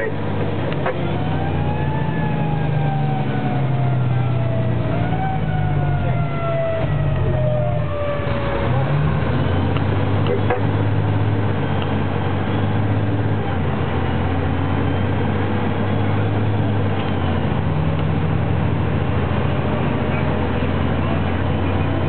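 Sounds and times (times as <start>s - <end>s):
fire engine running: 0.0s - 22.0s.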